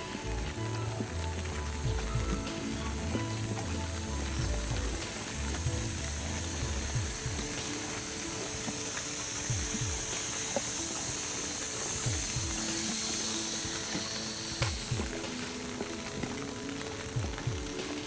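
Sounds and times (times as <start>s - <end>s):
footsteps on wet pavement: 0.0s - 18.0s
rain hissing: 0.0s - 18.0s.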